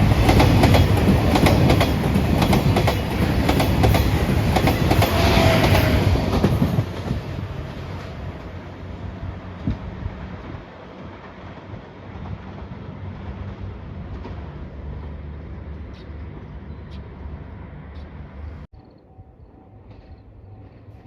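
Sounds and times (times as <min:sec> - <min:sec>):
diesel train running past: 0:00.0 - 0:21.0.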